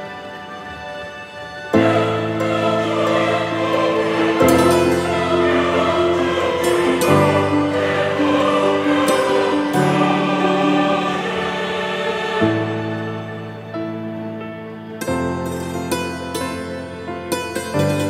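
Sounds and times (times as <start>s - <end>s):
slow sustained music chords: 0.0s - 18.0s.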